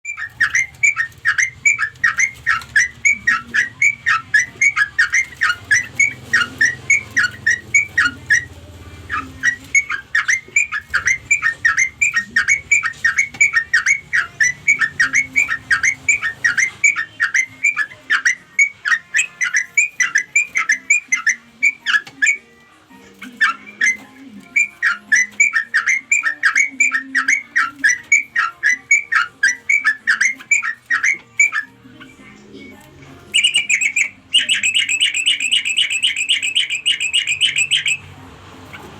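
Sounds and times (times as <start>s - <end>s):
bird sharp chattering call: 0.1s - 22.4s, 23.2s - 31.7s, 33.3s - 38.1s.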